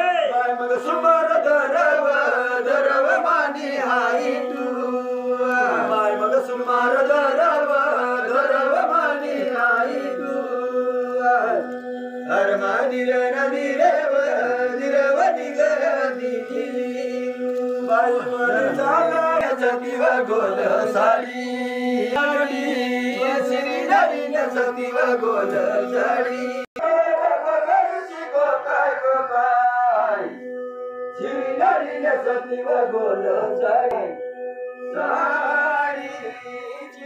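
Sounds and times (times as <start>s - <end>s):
devotional chanting: 0.0s - 37.0s.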